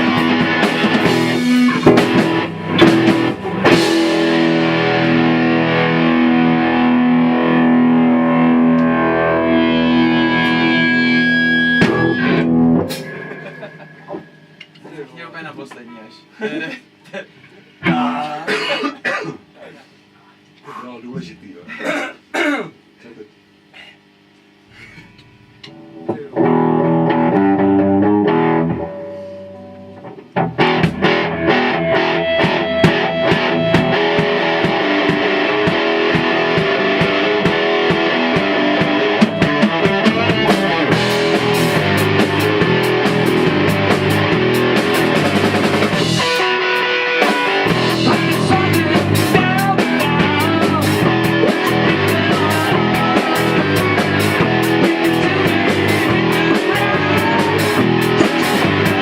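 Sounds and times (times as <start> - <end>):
bass guitar: 0.0 - 15.0, 24.8 - 59.0
drum kit: 0.0 - 15.5, 24.9 - 59.0
distorted electric guitar: 0.0 - 16.0, 24.7 - 59.0.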